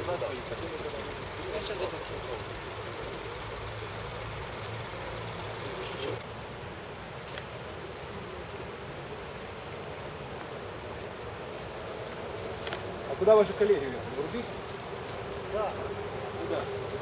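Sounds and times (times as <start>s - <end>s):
vehicle engine humming: 0.0s - 7.6s, 9.7s - 17.0s.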